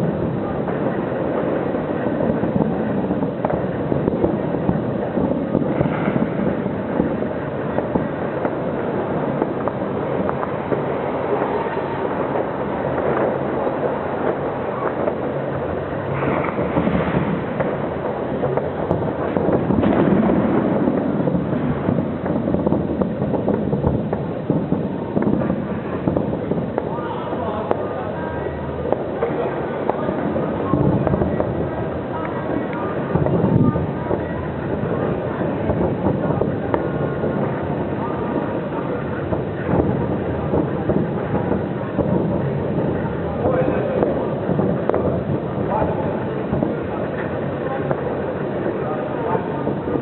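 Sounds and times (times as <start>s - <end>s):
distant fireworks rumble: 0.0s - 50.0s
fireworks cracks and pops: 0.0s - 50.0s.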